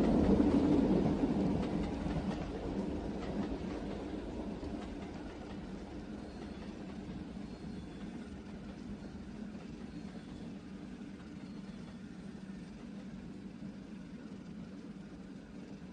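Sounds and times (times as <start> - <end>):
train rumbling along track: 0.0 - 15.9.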